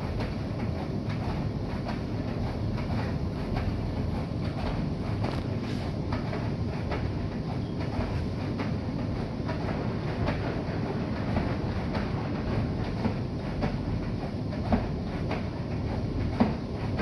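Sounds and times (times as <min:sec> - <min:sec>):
washing machine drum rumble: 0:00.0 - 0:17.0.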